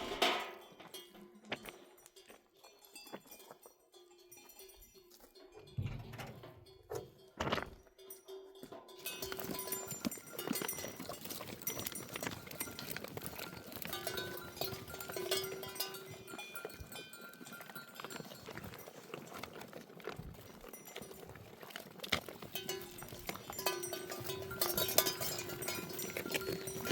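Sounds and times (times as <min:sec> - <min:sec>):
hoof clicks: 0:00.0 - 0:26.9
livestock bells clinking: 0:00.1 - 0:26.9.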